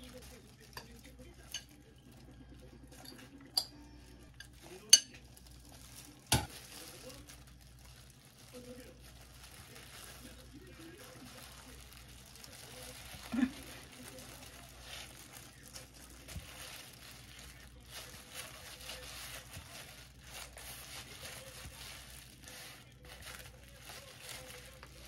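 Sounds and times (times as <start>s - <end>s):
plastic gloves crinkling: 0.0s - 25.0s.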